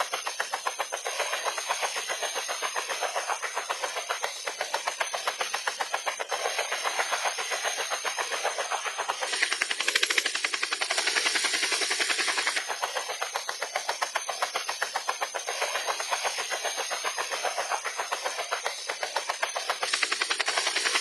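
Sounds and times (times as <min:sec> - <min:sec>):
engine and airflow hiss: 0:00.0 - 0:21.0
helicopter rotor chop: 0:00.0 - 0:21.0.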